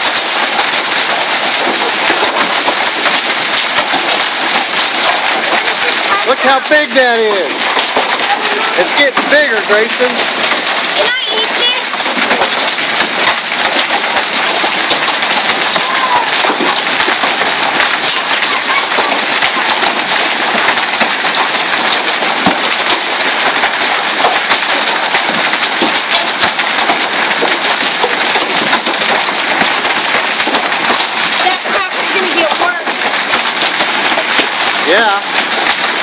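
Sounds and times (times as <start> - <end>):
hailstones pelting down: 0.0 - 36.0.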